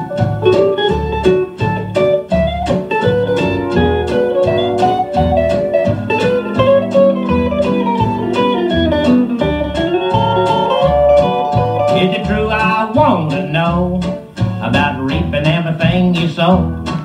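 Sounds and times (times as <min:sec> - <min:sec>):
country song instrumental on vinyl: 0:00.0 - 0:17.0.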